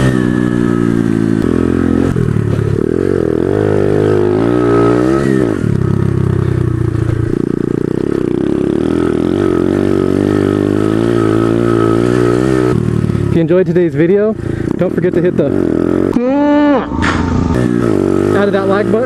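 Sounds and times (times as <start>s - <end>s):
small motorbike engine revving: 0.0s - 13.4s, 14.4s - 19.0s.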